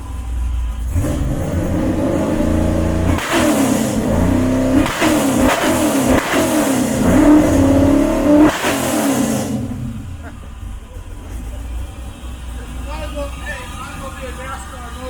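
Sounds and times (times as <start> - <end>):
loud car engine revving: 0.0 - 15.0.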